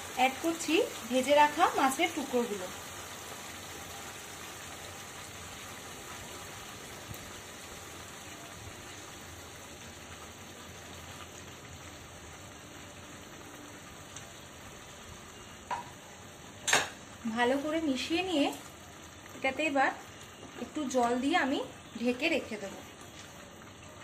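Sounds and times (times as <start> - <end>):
gravy sizzling in pan: 0.0 - 24.0.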